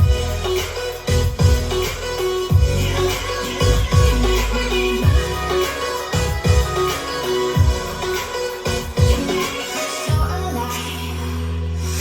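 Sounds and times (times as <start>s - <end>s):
electronic music with bass kicks: 0.0s - 11.2s.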